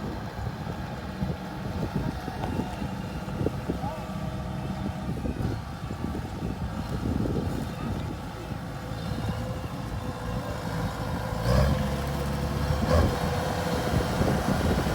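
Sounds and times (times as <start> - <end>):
farm machine engine running: 0.0 - 14.9.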